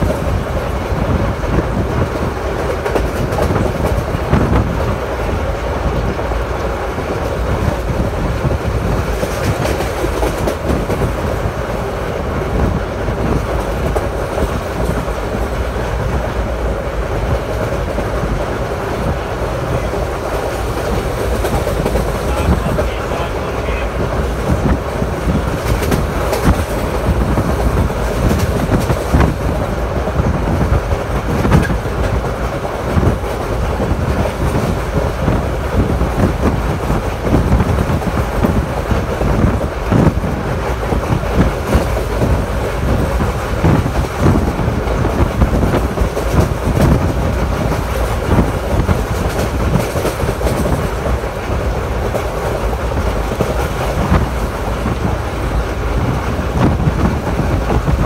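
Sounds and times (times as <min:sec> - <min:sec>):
clacks over rail joints: 0:00.0 - 0:58.0
train wheels rumbling on rails: 0:00.0 - 0:58.0.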